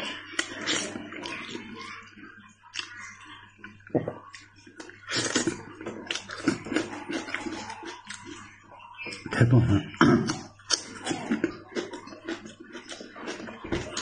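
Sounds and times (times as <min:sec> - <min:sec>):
man chewing with wet smacking: 0:00.0 - 0:01.6, 0:02.6 - 0:14.0.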